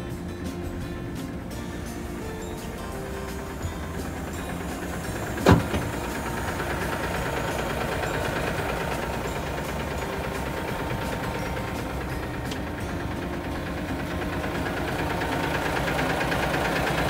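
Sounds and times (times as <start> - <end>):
truck diesel engine idling: 0.0 - 17.0.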